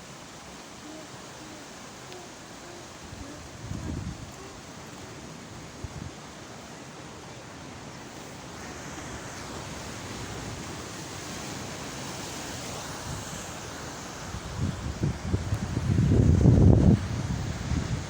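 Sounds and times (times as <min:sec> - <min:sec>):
waves washing on shore: 0:00.0 - 0:18.0.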